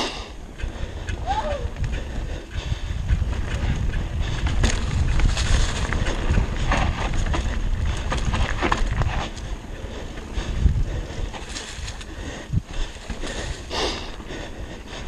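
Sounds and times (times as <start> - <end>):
wind buffeting microphone: 0.0 - 15.0
bike tyres clattering on dirt: 0.4 - 14.9.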